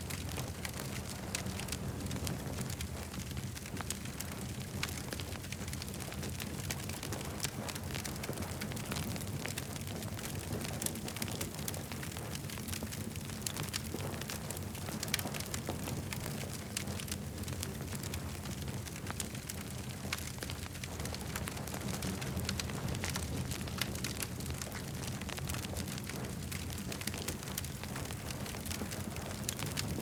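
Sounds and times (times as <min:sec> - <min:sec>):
campfire flame rumble: 0:00.0 - 0:30.0
wood crackling and popping: 0:00.0 - 0:30.0.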